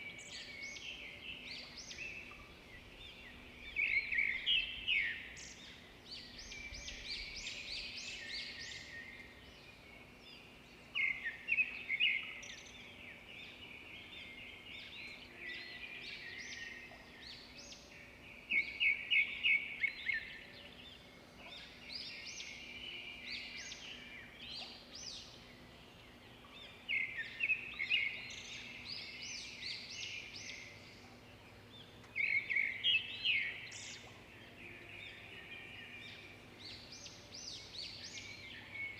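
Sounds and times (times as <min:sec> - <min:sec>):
forest birds chirping: 0:00.0 - 0:38.9.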